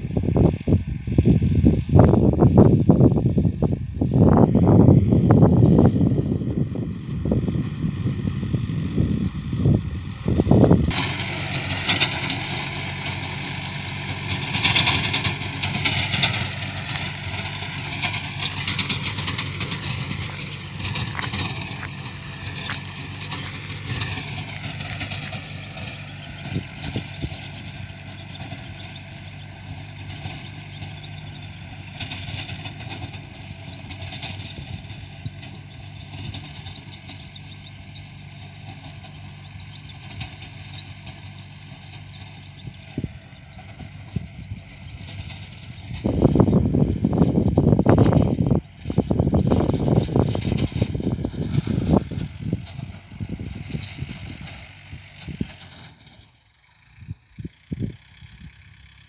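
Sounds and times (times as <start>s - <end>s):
engine with high whine: 0.0s - 59.0s.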